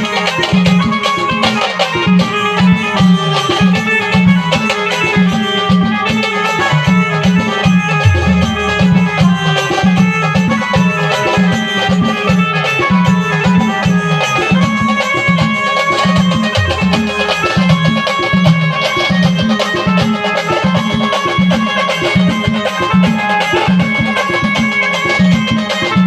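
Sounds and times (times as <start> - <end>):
band playing a melody: 0.0 - 26.0
driving drum rhythm: 0.0 - 26.0.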